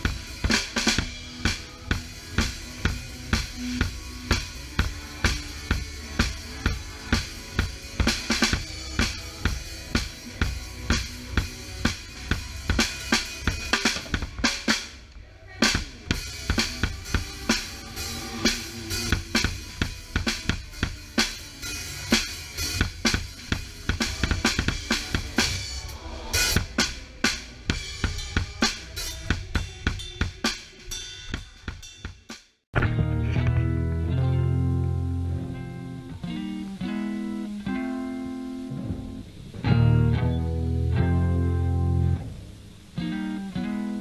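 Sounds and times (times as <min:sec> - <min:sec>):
drum kit rock beat: 0:00.0 - 0:44.0.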